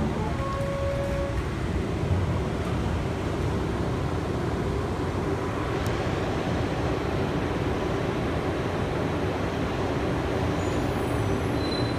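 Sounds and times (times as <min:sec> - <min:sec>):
train car running rumble: 0:00.0 - 0:11.9.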